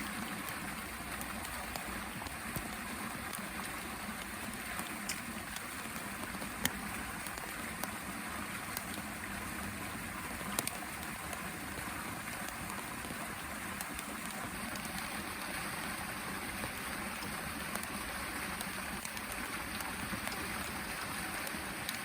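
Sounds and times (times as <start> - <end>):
rain drops ticking: 0.0 - 22.0
steady rain falling: 0.0 - 22.0.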